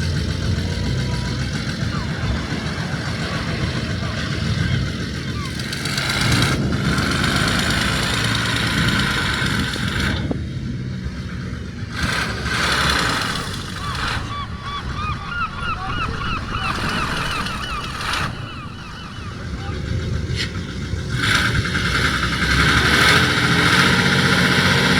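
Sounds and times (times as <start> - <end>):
gulls squawking: 0.0 - 10.2, 12.0 - 24.9
low rumble and noise: 0.0 - 24.9.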